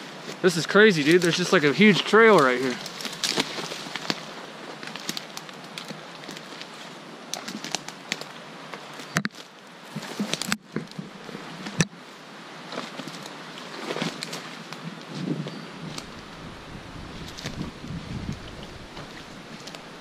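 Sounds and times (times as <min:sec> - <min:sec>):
twigs crackling underfoot: 0:00.2 - 0:20.0
twigs snapping: 0:01.0 - 0:11.9, 0:12.7 - 0:14.8, 0:15.9 - 0:16.2, 0:17.2 - 0:19.9.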